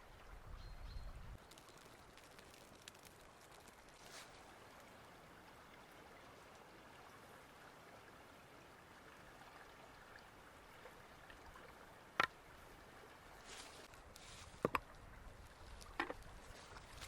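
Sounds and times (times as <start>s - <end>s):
trickling stream: 0.0s - 17.0s.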